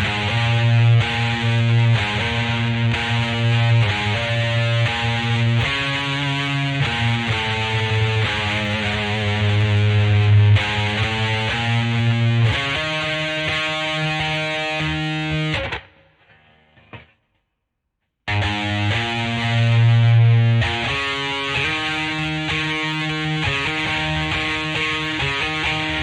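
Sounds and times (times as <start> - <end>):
distorted electric guitar chords: 0.0 - 17.1, 18.3 - 26.0.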